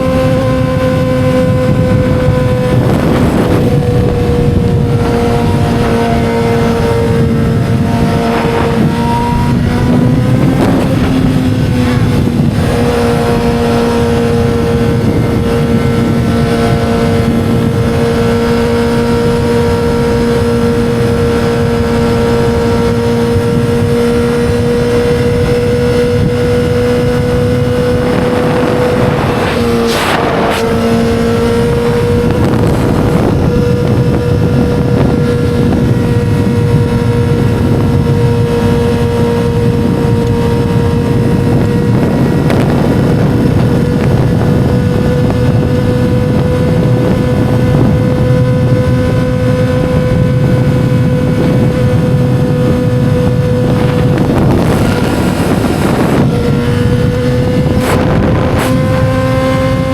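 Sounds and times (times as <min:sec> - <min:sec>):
motorcycle engine at high pitch: 0:00.0 - 0:59.9
noisy rush: 0:00.0 - 0:59.9.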